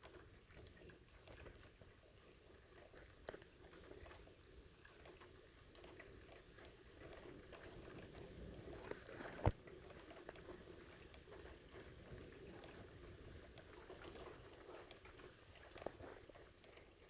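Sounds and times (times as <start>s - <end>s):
light rain patter: 0.0s - 17.0s.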